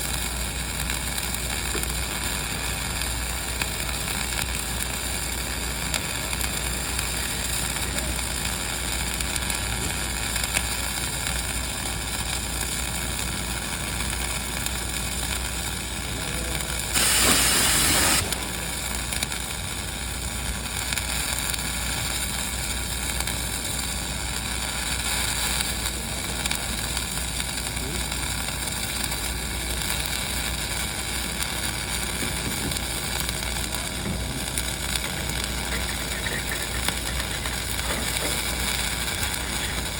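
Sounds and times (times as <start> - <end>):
loud welding hiss: 0.0 - 39.9
welding arc crackling sizzle: 0.0 - 39.9.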